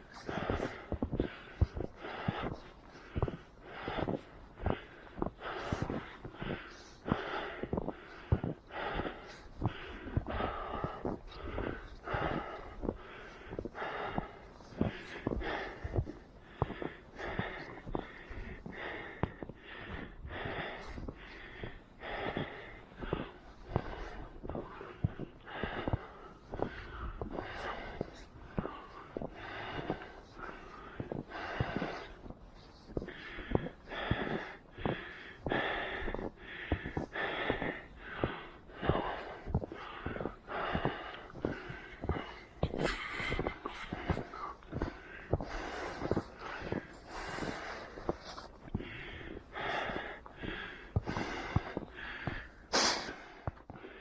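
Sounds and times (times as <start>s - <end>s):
footsteps in snow: 0.0s - 53.8s
heavy breathing: 0.0s - 54.0s.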